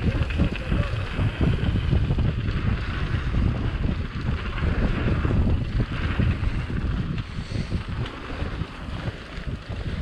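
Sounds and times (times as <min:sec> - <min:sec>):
bike rattling over bumps: 0:00.0 - 0:10.0
tyres rolling over dirt: 0:00.0 - 0:10.0
wind buffeting microphone: 0:00.0 - 0:10.0.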